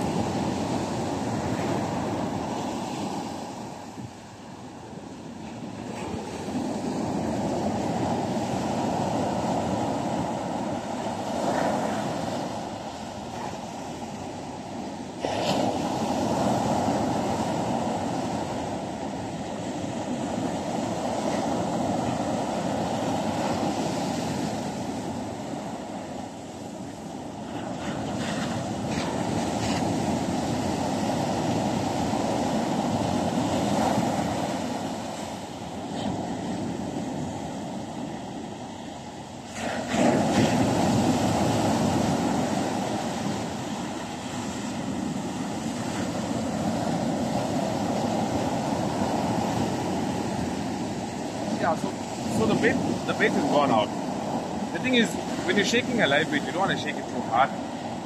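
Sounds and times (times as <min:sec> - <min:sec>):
ocean surf breaking on beach: 0:00.0 - 0:58.0
wind on microphone: 0:00.0 - 0:58.0.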